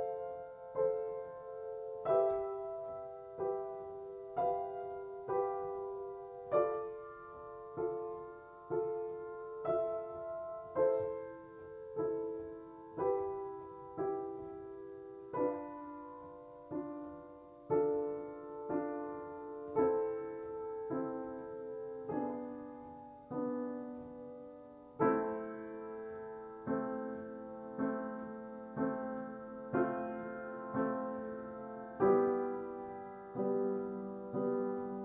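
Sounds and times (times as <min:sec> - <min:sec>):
slow solo piano: 0:00.0 - 0:35.0.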